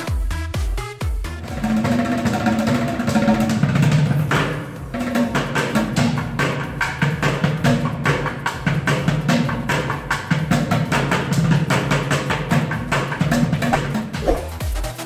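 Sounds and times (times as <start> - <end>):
drumming on plastic buckets: 0.0 - 15.0.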